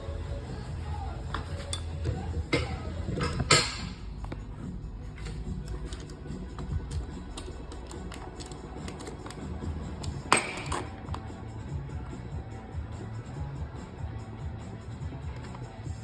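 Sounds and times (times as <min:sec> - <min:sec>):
radio music: 0:00.0 - 0:16.0.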